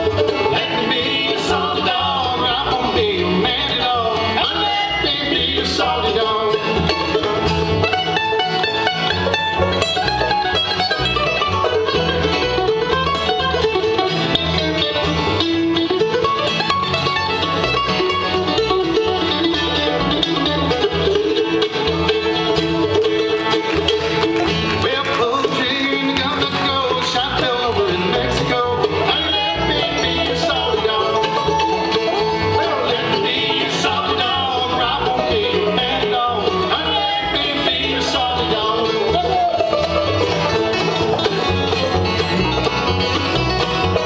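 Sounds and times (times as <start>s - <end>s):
acoustic guitar: 0.0s - 44.0s
banjo: 0.0s - 44.0s
mandolin picking lead: 0.0s - 44.0s.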